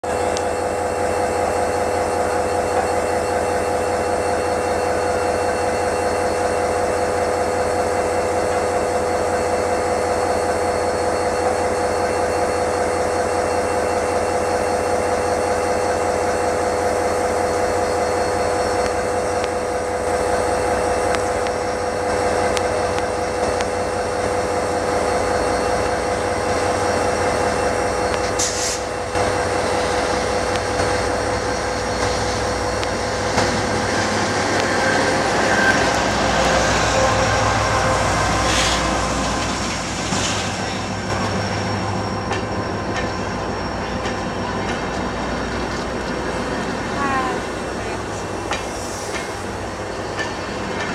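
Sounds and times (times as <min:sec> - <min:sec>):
diesel locomotive engine running: 0:00.0 - 0:50.9
engine whine: 0:00.0 - 0:50.9.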